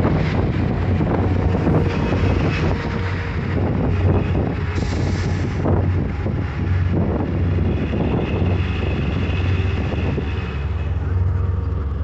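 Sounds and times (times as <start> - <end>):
bus engine droning: 0.0 - 12.0
road noise: 0.0 - 12.0.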